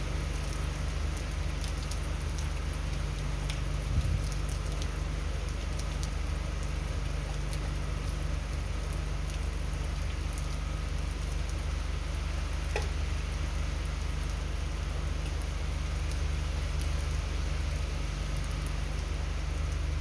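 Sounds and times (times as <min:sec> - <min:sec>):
constant low rumble: 0:00.0 - 0:20.0
heavy rain falling: 0:00.0 - 0:20.0
raindrops ticking sharply: 0:00.0 - 0:20.0.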